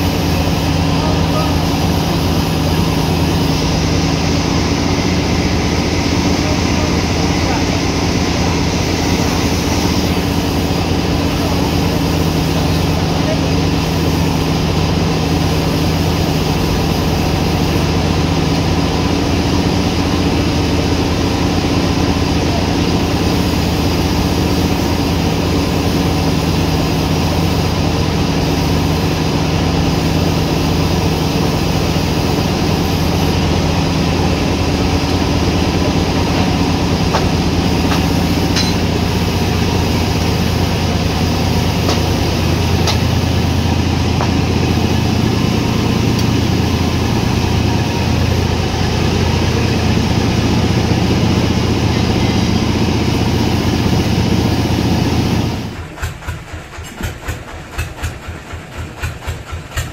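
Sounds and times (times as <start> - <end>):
sawmill machinery motor drone: 0.0 - 59.9.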